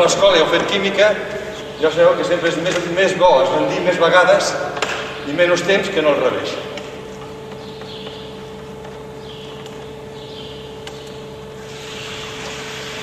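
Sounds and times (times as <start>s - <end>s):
pump humming: 0.0s - 13.0s.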